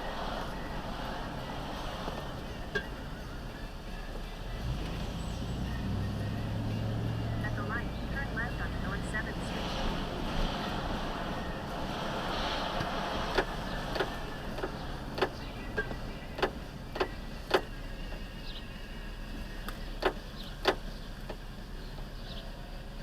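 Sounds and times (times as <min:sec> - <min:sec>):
vehicle rumble from inside: 0:00.0 - 0:23.0.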